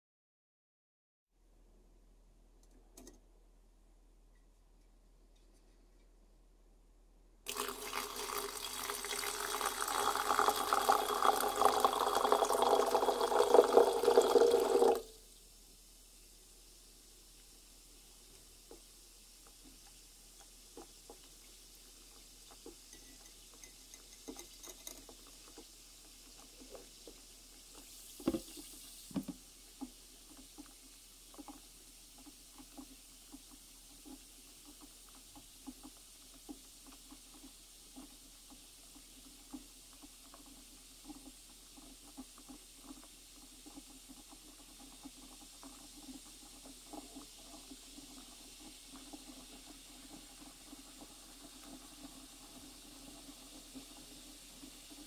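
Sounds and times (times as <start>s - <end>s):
acid fizzing with popping bubbles: 7.5s - 55.0s.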